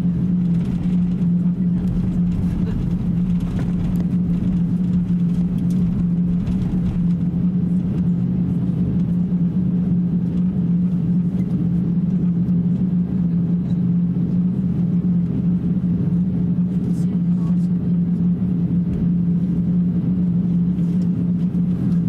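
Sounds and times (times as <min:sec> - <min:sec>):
airplane cabin drone: 0:00.0 - 0:22.0
constant low hum: 0:00.0 - 0:22.0.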